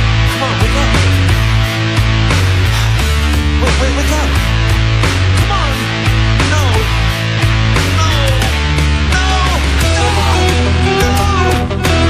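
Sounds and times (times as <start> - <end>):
distorted electric guitars: 0.0 - 12.0
driving bass: 0.0 - 12.0
drums: 0.0 - 12.0.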